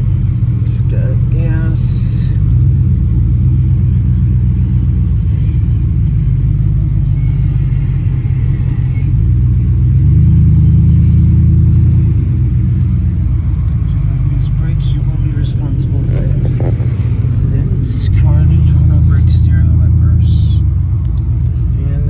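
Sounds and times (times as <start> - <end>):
car engine rumbling inside cabin: 0.0 - 22.0.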